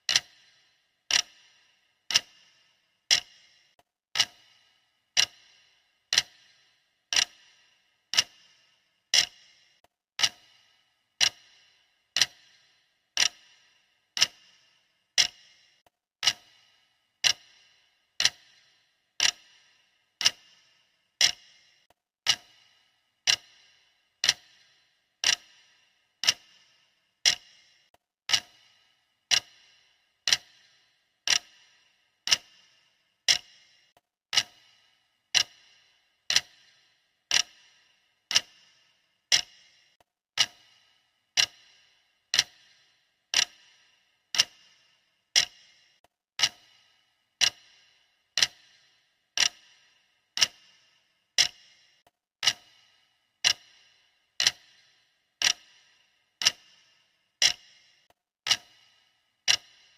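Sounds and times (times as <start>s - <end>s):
timer ticking: 0.0s - 59.9s.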